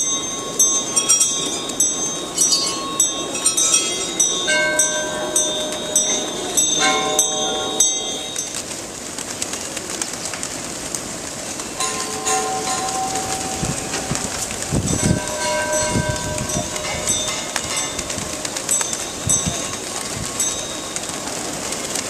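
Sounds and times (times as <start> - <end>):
deeper bell tones: 0.0 - 8.7, 11.8 - 21.5
small metal bells ringing: 0.0 - 8.9, 11.7 - 22.0.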